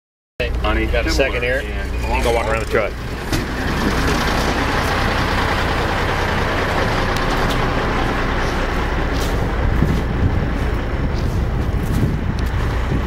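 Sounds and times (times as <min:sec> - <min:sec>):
diesel truck engine rumble: 0:00.4 - 0:13.0.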